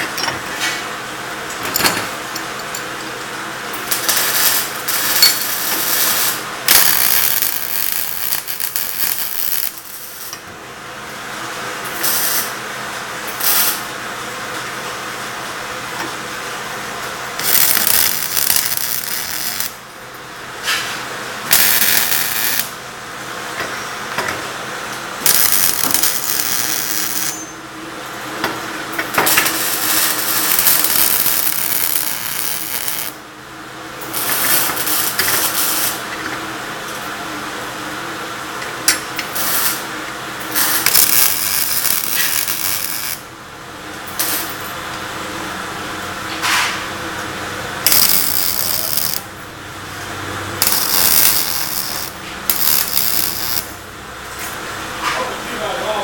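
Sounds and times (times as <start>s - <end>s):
arc welding crackling and hissing: 0.6s - 22.8s, 23.6s - 33.3s, 34.0s - 37.2s, 38.2s - 43.3s, 44.0s - 56.0s.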